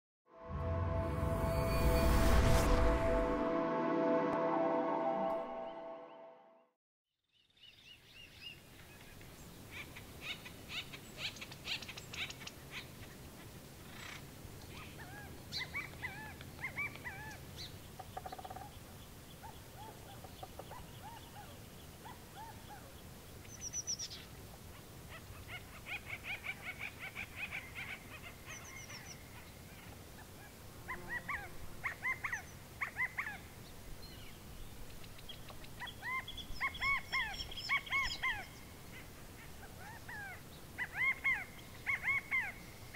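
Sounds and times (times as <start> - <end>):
faint steady background noise: 7.4 - 42.9.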